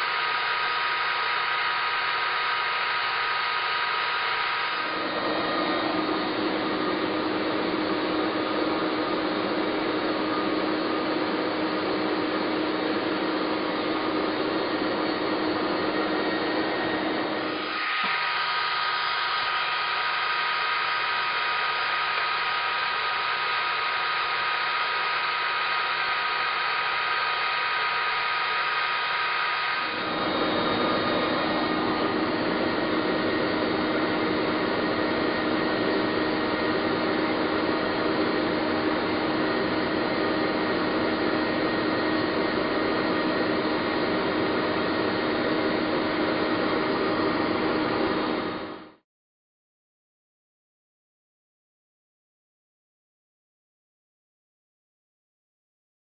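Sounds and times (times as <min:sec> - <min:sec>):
wood lathe motor whirring: 0:00.0 - 0:48.6.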